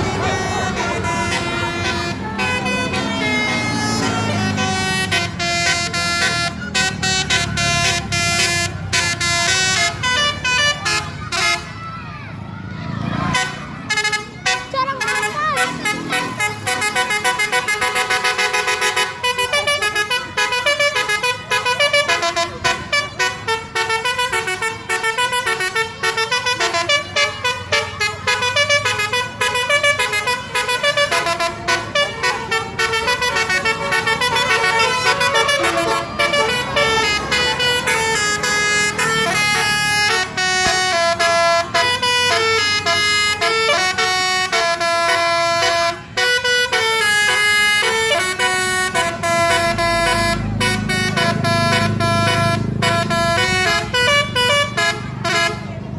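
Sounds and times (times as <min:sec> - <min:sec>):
multi-tone musical bus horn: 0:00.0 - 0:55.9.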